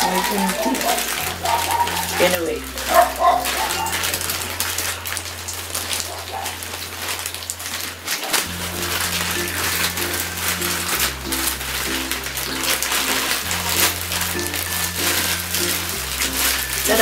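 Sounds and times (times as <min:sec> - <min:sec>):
background music with bass notes: 0:00.0 - 0:06.0, 0:08.5 - 0:17.0
plastic bag crinkling: 0:00.0 - 0:17.0.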